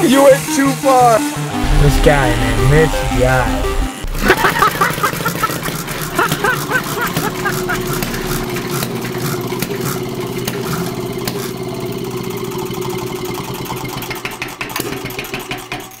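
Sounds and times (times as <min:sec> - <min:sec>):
engine running: 0:00.0 - 0:15.7.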